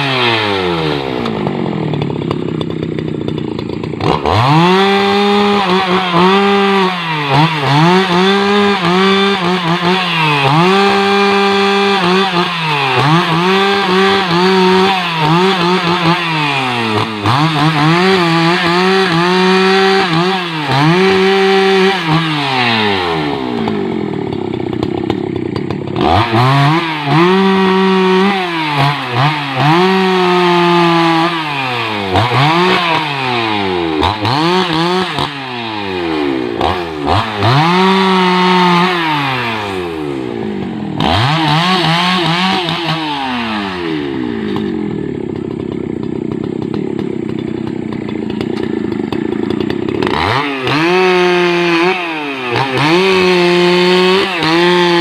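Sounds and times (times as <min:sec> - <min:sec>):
chainsaw revving while cutting logs: 0:00.0 - 0:55.0.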